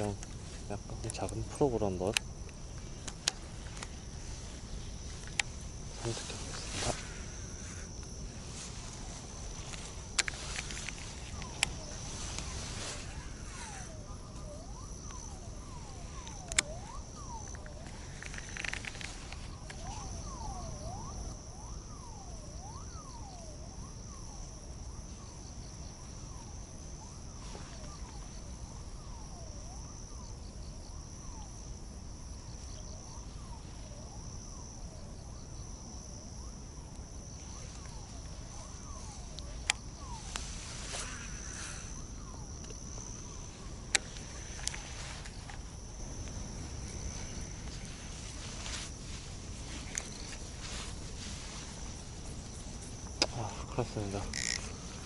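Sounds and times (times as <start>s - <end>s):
insects trilling in chorus: 0.0s - 55.0s.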